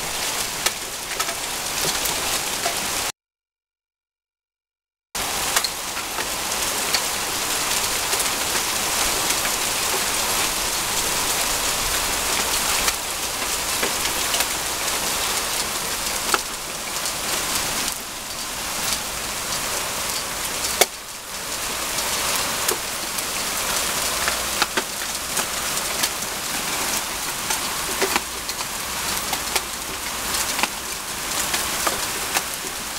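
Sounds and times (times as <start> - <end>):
hail hissing on wet paving: 5.2 - 32.9
hailstones clicking on ground: 5.2 - 32.9.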